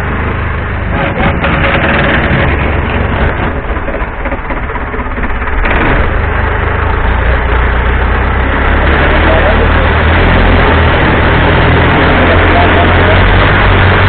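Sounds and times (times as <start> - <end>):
boat engine running: 0.0 - 14.0
rushing water: 1.8 - 14.0.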